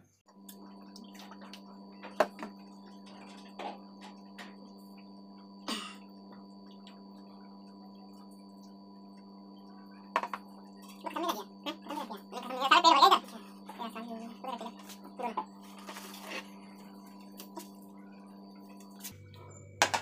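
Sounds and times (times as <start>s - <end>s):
low hum: 0.3s - 20.0s.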